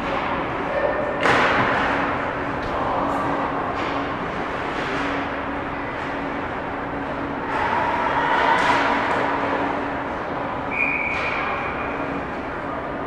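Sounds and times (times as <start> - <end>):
ice rink crowd noise: 0.0 - 13.0.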